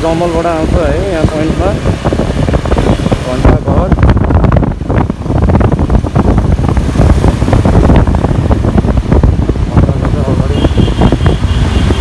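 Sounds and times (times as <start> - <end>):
road noise: 0.0 - 12.0
wind buffeting microphone: 0.0 - 12.0
motorcycle engine: 0.9 - 12.0.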